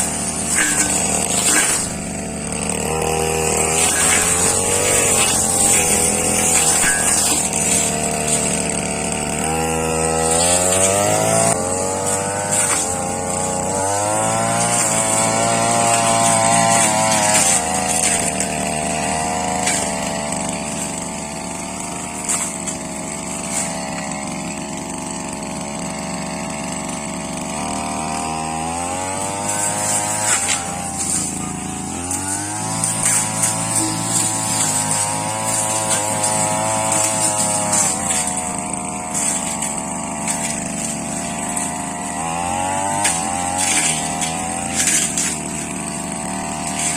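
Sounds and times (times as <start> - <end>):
brush cutter engine revving: 0.0 - 46.9.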